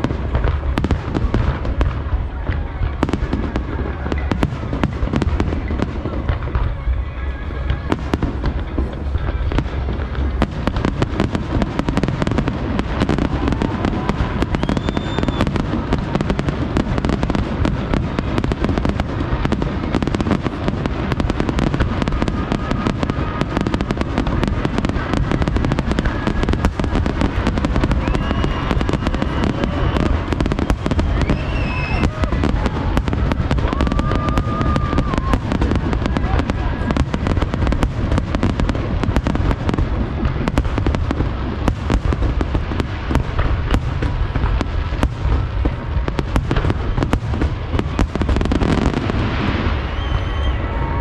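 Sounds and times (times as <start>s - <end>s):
fireworks bursts and booms: 0.0s - 51.0s.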